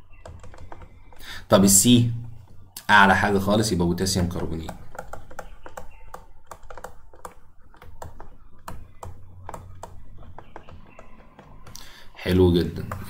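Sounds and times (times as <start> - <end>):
stylus clicking on tablet: 0.0 - 13.0.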